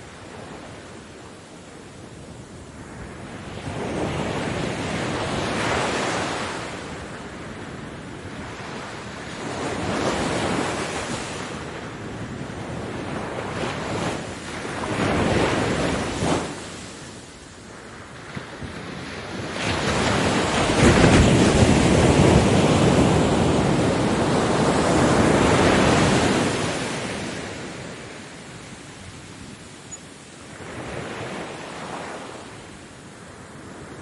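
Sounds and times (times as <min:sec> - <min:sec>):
waves breaking on beach: 0:00.0 - 0:34.0.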